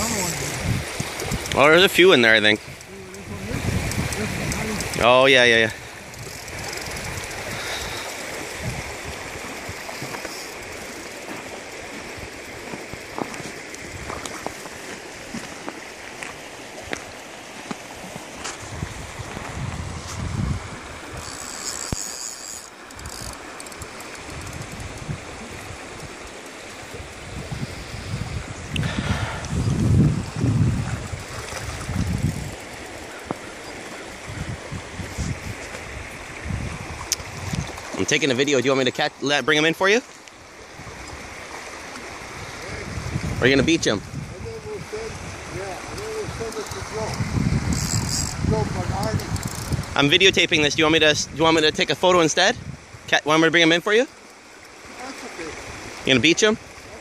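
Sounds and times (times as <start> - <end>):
wind gusts on microphone: 0.0 - 22.1, 22.9 - 39.8, 40.4 - 53.6, 54.8 - 57.0
creek water flowing: 0.0 - 57.0.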